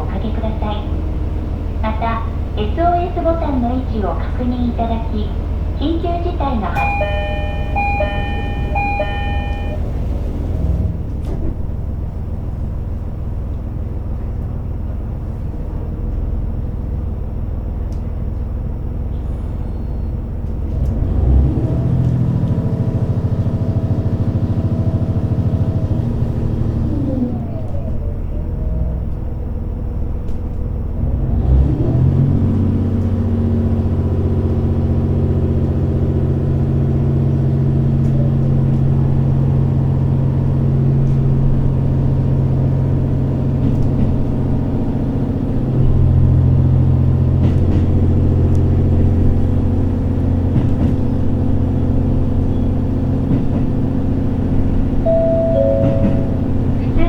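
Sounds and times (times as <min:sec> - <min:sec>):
railcar engine drone: 0:00.0 - 0:57.0.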